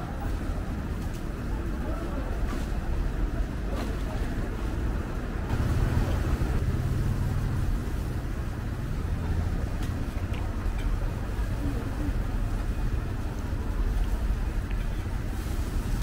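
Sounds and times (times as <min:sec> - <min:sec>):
busy market rumble: 0:00.0 - 0:16.0.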